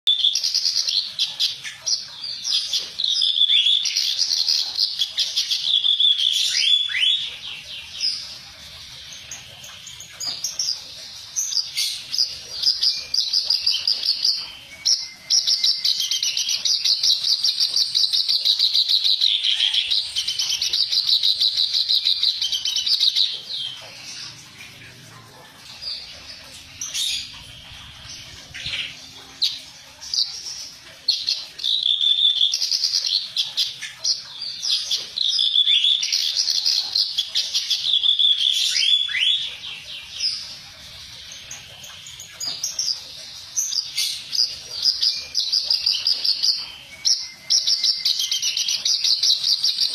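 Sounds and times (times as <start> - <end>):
reed warbler singing harsh chattering song: 0.1 - 49.9.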